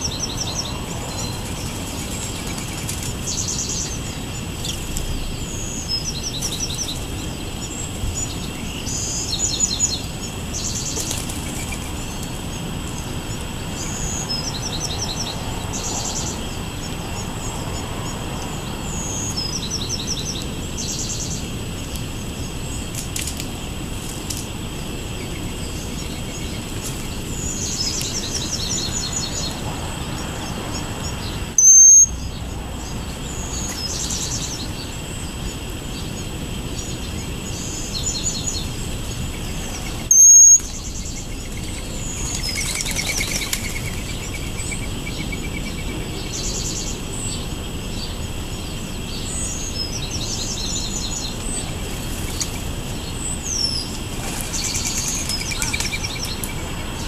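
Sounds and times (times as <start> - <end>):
outdoor background noise: 0.0 - 57.0
songbirds singing and chirping: 0.0 - 57.0.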